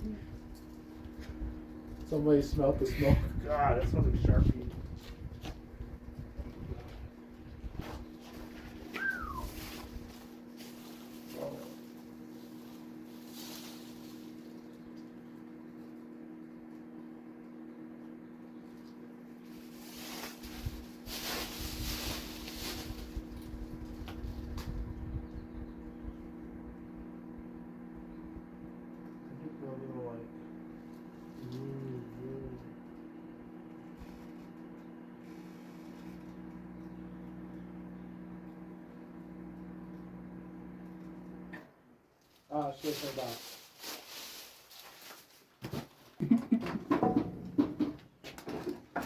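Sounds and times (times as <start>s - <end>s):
microwave oven humming: 0.0s - 49.0s.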